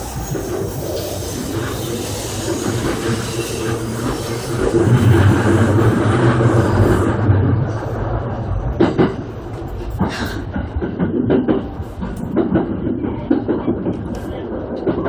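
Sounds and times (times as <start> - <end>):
electric train low hum: 0.0 - 15.0
train wheels clacking on track: 0.0 - 15.0.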